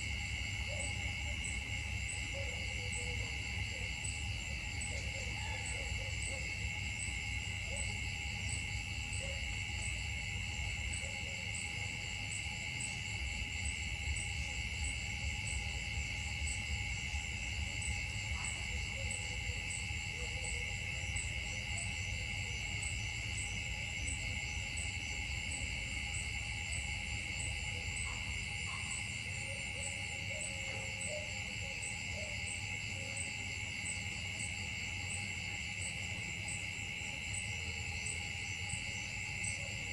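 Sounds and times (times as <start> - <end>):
insects buzzing: 0.0 - 39.9
pulsing insect chirp: 0.0 - 39.9.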